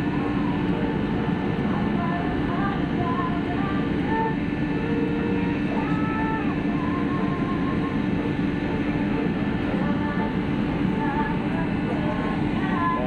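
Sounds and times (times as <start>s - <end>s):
ship machinery droning: 0.0s - 13.0s.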